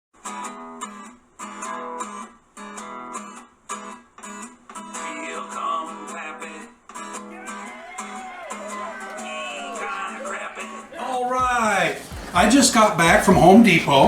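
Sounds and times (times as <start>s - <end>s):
guitar strummed chords: 0.3s - 12.3s.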